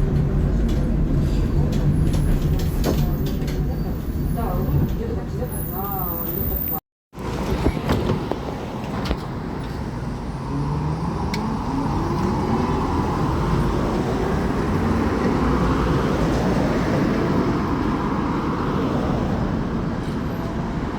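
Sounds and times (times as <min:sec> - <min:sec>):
wheels rumbling on rails: 0:00.0 - 0:20.9.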